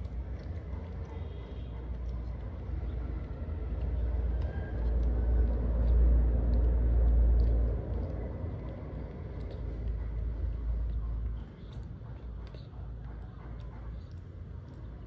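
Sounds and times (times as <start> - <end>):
faint small clicks: 0.0 - 15.0
low rumble: 1.9 - 15.0.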